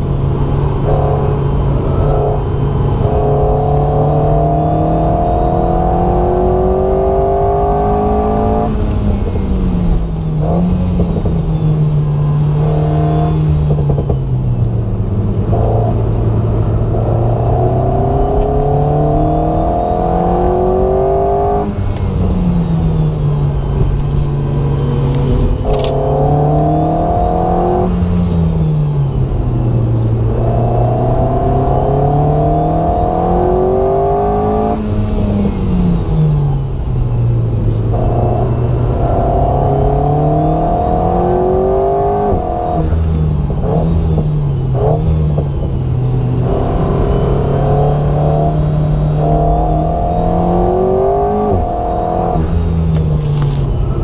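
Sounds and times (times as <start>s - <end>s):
car engine revving: 0.0s - 54.0s
road and tyre drone: 0.0s - 54.0s.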